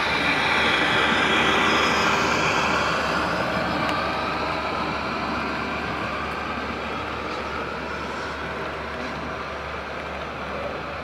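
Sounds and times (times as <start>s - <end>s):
model train cars rolling on rails: 0.0s - 11.0s.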